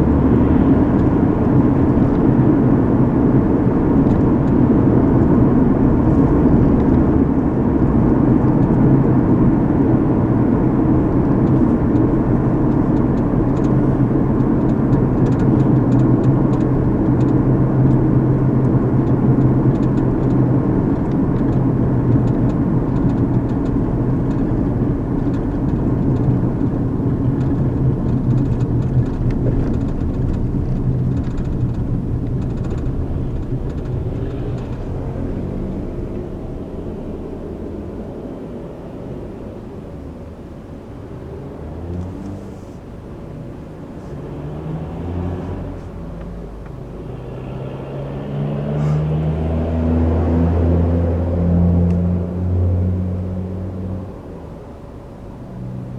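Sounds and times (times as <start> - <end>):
car engine hum: 0.0 - 55.9
tyre and road rumble: 0.0 - 55.9.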